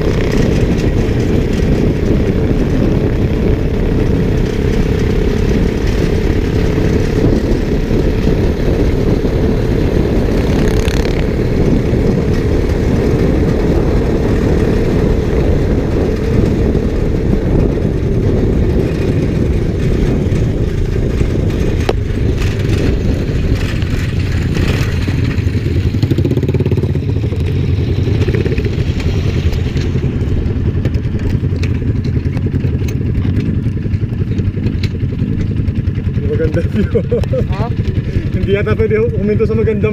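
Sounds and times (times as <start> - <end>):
low engine tone: 0.0 - 39.9
motorcycle engine rumble: 0.0 - 39.9.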